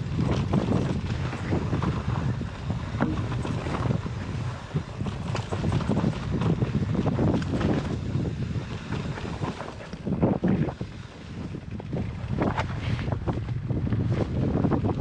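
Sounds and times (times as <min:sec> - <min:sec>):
bike rattling over bumps: 0:00.0 - 0:15.0
bike tyre rumble: 0:00.0 - 0:15.0
wind buffeting microphone: 0:00.0 - 0:15.0.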